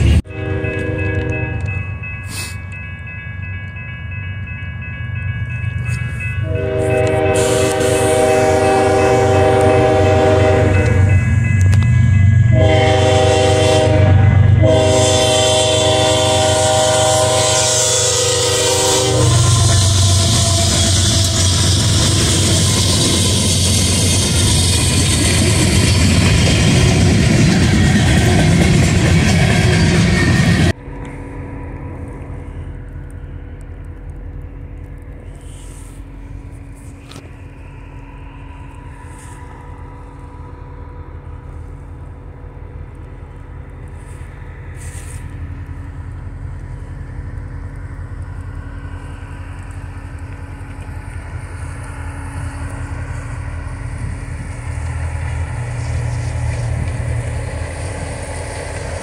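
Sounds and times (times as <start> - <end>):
freight train passing: 0.0 - 59.0
locomotive engine drone: 0.0 - 59.0.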